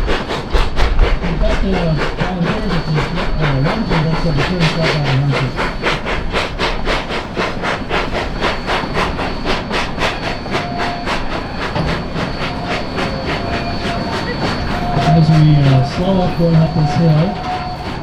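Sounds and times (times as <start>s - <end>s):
steam hiss: 0.0s - 18.0s
steam locomotive exhaust chuffing: 0.0s - 18.0s.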